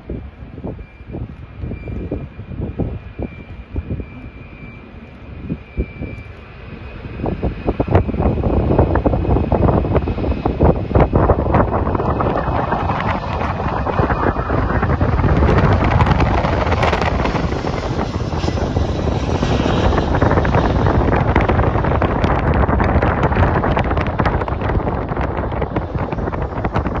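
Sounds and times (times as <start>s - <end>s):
wind buffeting microphone: 0.0s - 27.0s
jet engines rumbling: 0.1s - 27.0s.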